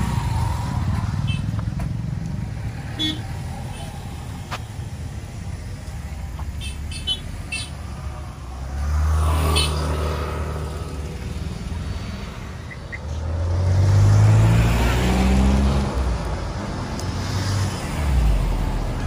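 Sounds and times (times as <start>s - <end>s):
cars passing by: 0.0s - 19.0s.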